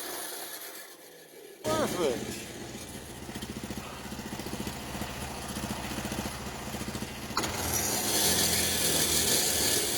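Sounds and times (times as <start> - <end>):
small engine idling: 1.6 - 9.9.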